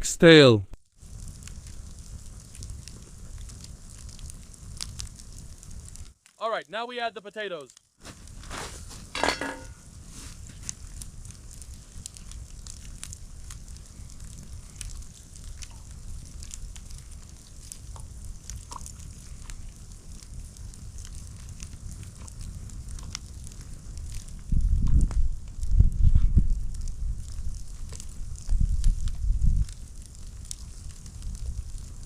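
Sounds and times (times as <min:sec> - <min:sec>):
campfire crackling: 0:00.2 - 0:32.0.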